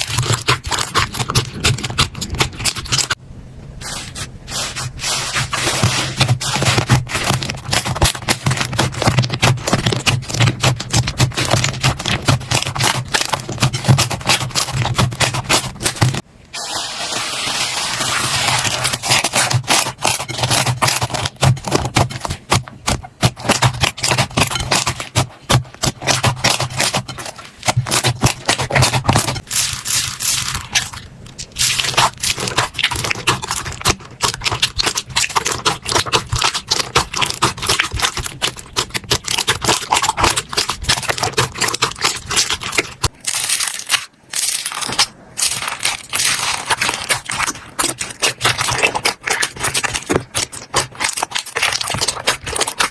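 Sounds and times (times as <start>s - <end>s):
slime crackling and popping: 0.0s - 3.2s, 5.4s - 16.2s, 17.2s - 52.9s.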